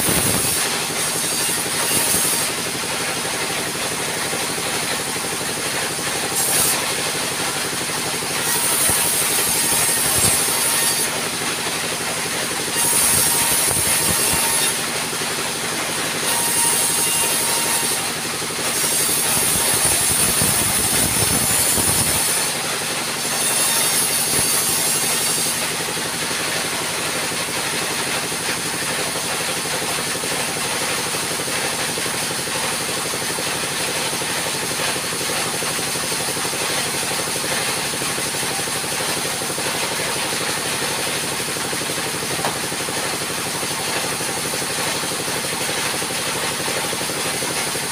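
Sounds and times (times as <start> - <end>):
band saw cutting wood: 0.0 - 47.9.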